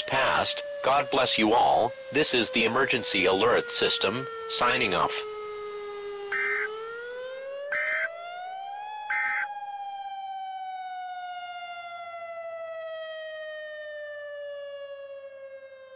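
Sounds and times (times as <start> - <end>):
siren wail: 0.0 - 15.9.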